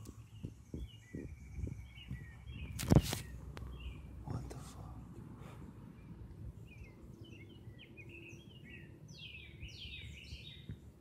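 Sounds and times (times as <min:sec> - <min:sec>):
low background rumble: 0:00.0 - 0:11.0
songbird singing: 0:00.0 - 0:11.0.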